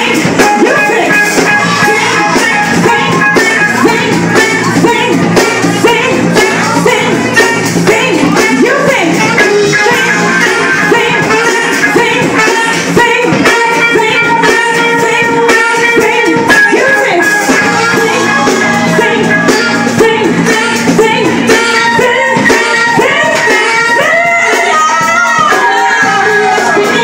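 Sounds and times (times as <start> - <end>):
drums: 0.0 - 27.0
electric guitar: 0.0 - 27.0
women singing: 0.0 - 27.0.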